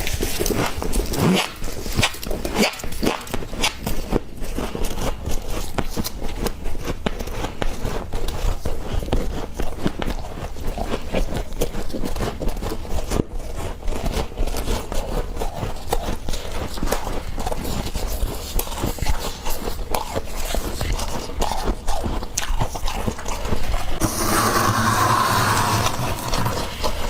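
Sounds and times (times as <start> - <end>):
frost being chewed: 0.0 - 24.0.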